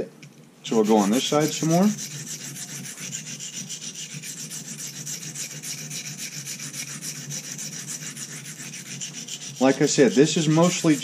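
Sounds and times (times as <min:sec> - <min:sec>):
knife scraping on sharpening stone: 0:00.8 - 0:11.0.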